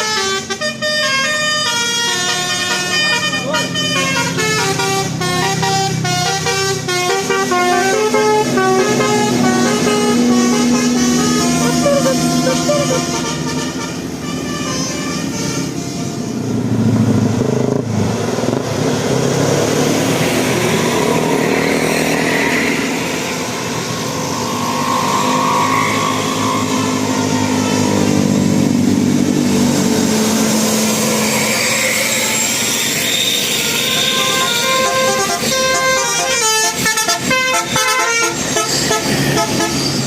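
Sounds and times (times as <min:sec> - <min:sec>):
car engines passing: 0:00.0 - 0:40.0
motorcycle engines revving: 0:00.2 - 0:40.0.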